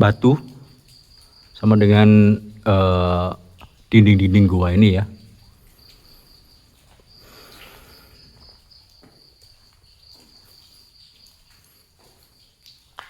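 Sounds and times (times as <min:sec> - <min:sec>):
cricket chirring: 0:00.0 - 0:13.0.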